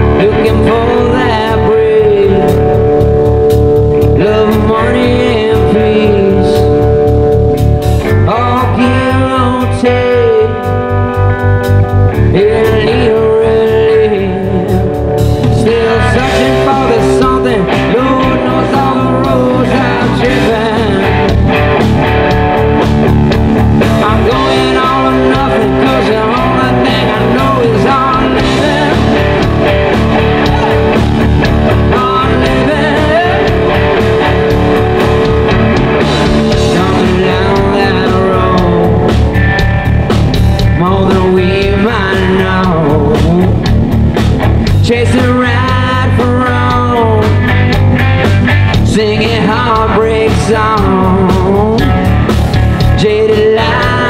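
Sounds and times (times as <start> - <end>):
bass guitar: 0.0 - 54.0
drums: 0.0 - 54.0
electric guitar lead with bending notes: 0.0 - 54.0.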